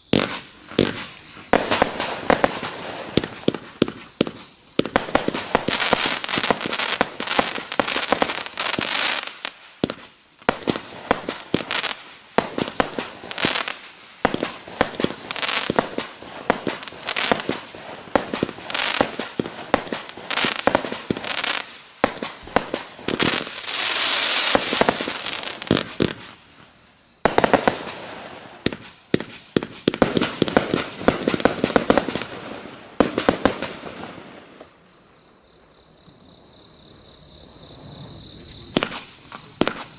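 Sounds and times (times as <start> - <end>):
firework launches and bursts: 0.0 - 34.7
firework crackling: 0.0 - 34.8, 37.8 - 39.9.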